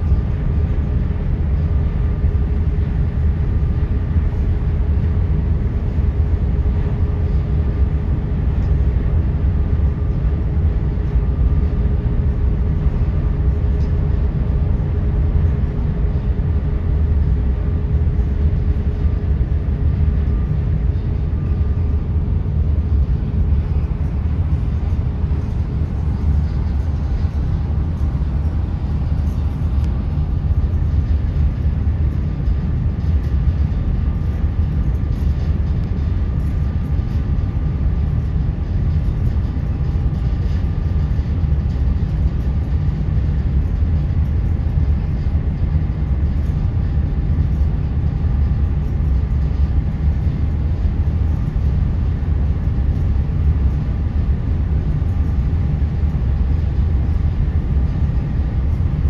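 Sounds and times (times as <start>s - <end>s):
faint steady hums: 0.0s - 59.0s
ferry engine rumble: 0.0s - 59.0s.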